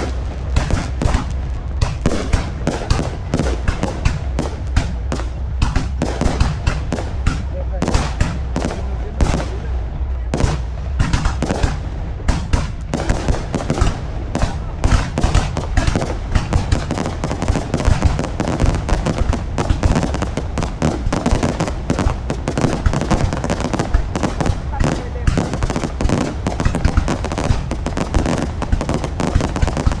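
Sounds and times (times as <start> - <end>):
fireworks bangs and crackles: 0.0 - 30.0
low rumble: 0.0 - 30.0.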